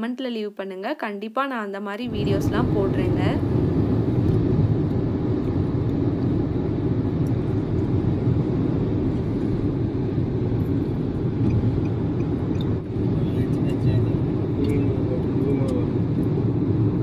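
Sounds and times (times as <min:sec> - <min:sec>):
car driving rumble inside car: 0:02.1 - 0:17.0.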